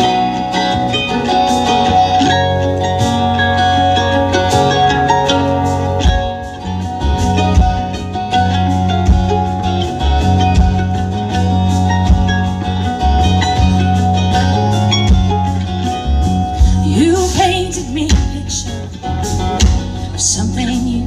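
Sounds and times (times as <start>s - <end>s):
live band playing blues-country: 0.0s - 21.0s.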